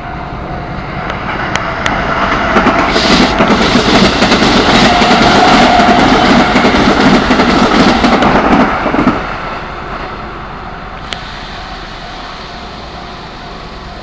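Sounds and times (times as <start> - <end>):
rumble of train wheels: 0.0 - 14.0.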